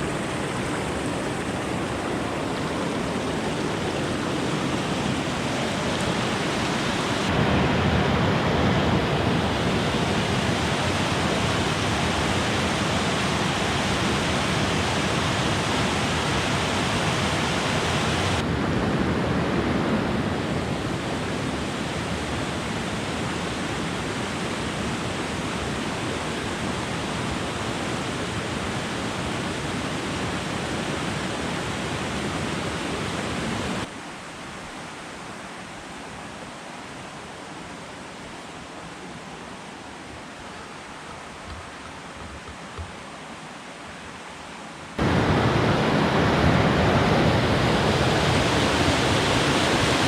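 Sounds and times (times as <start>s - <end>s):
rushing water of cascades: 0.0s - 50.0s.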